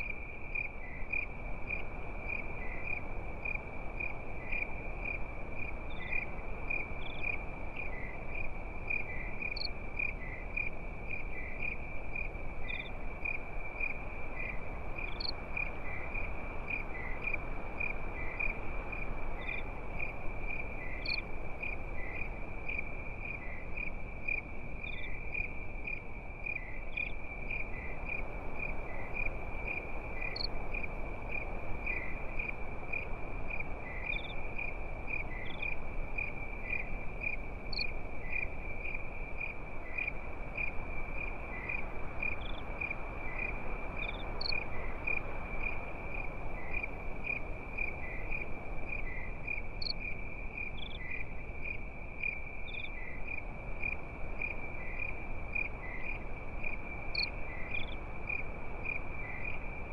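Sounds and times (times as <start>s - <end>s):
crickets trilling: 0.0s - 59.9s
soft continuous hiss: 0.0s - 59.9s.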